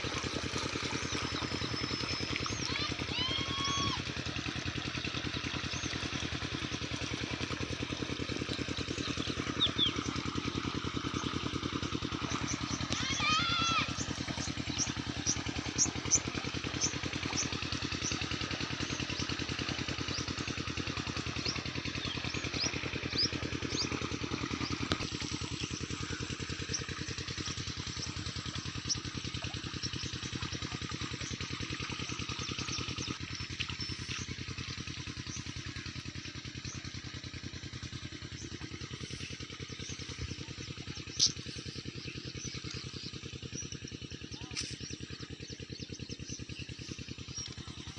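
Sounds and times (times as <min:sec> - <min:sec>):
water pump engine running: 0:00.0 - 0:47.9.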